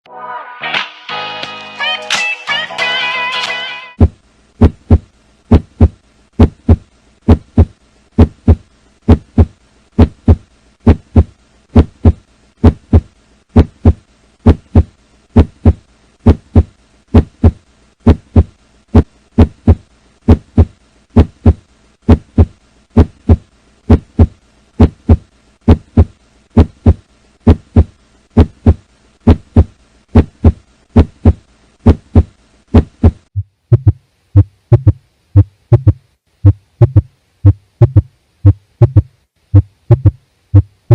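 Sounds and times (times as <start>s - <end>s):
heartbeat thumps: 4.0s - 40.9s.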